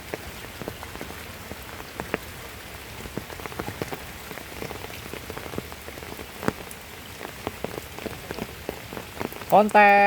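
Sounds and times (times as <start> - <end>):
heavy rain falling: 0.0 - 10.0
single raindrops ticking: 0.0 - 10.0.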